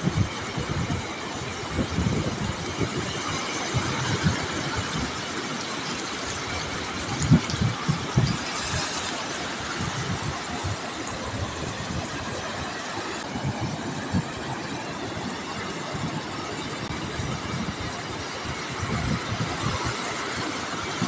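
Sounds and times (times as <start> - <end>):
waves breaking on beach: 0.0 - 21.0
wind buffeting microphone: 0.0 - 21.0.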